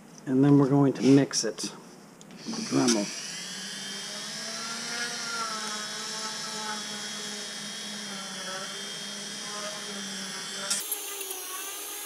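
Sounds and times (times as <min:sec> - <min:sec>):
rotary tool whining: 0:02.3 - 0:12.0.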